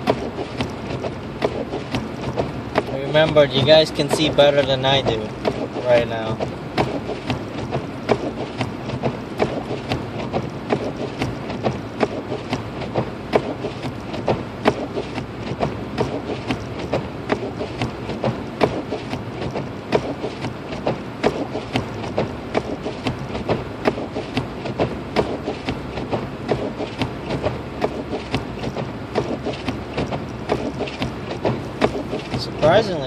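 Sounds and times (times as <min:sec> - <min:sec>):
car road rumble: 0:00.0 - 0:33.0
sharp clicks and knocks: 0:00.0 - 0:33.0.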